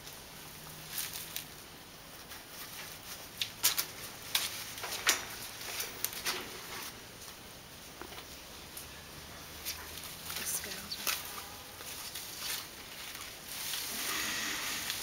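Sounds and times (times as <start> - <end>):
rustling in leafy bedding: 0.0 - 7.3, 8.4 - 15.0.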